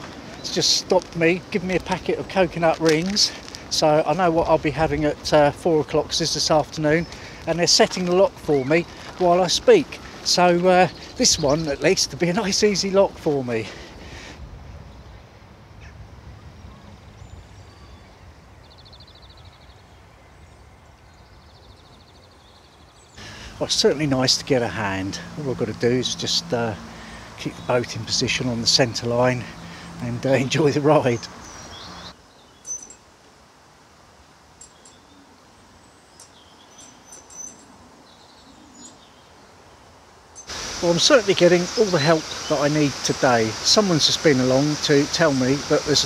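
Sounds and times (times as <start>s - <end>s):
faint background hiss: 0.0s - 46.0s.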